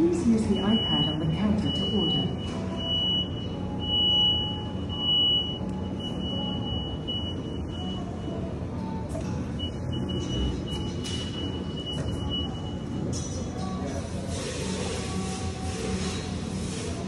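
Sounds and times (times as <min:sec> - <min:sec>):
low machine hum: 0:00.0 - 0:17.0
music playing: 0:00.0 - 0:17.0.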